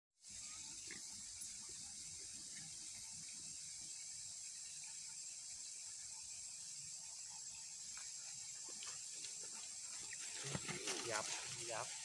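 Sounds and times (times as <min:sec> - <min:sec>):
steady high-pitched hiss: 0:00.2 - 0:12.0.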